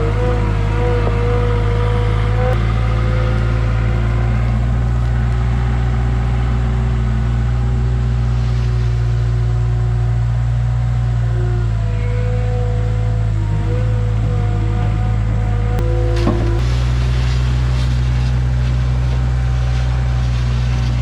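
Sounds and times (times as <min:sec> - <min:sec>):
diesel engine running: 0:00.0 - 0:21.0
steady whine: 0:00.0 - 0:21.0.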